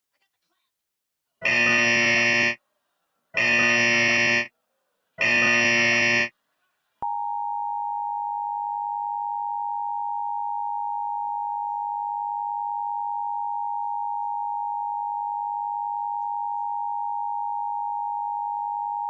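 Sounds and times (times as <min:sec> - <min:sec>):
two-tone attention signal: 0:01.4 - 0:02.6, 0:03.4 - 0:04.5, 0:05.2 - 0:06.3, 0:07.0 - 0:19.0.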